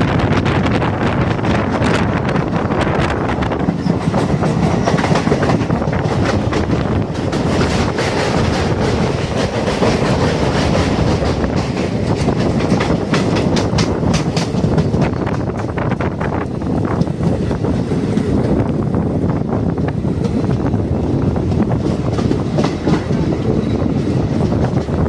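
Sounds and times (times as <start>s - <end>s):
train wheels rumbling on rails: 0.0s - 25.0s
wheels clacking over rail joints: 1.2s - 25.0s.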